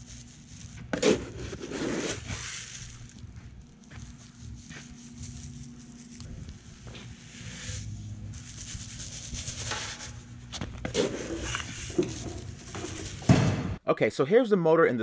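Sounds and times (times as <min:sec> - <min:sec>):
shoe scraping granules: 0:00.0 - 0:13.4.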